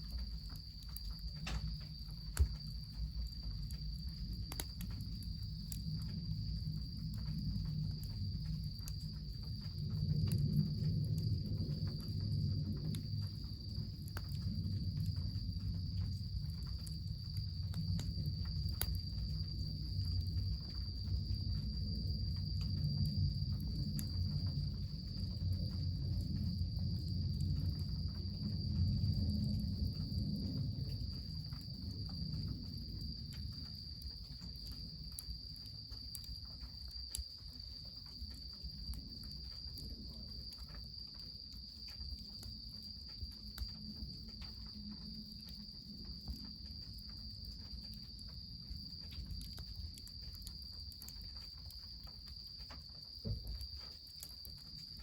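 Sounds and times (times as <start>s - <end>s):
insects trilling: 0.0s - 55.0s
small crackles and ticks: 0.0s - 55.0s.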